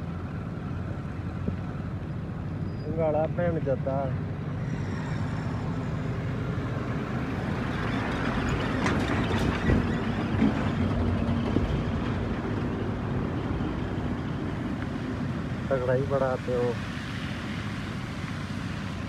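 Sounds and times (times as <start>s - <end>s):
truck passing close: 0.0s - 19.0s.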